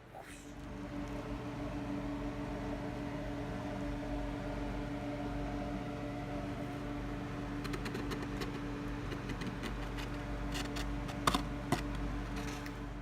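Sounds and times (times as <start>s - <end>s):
appliance hum: 0.0s - 13.0s.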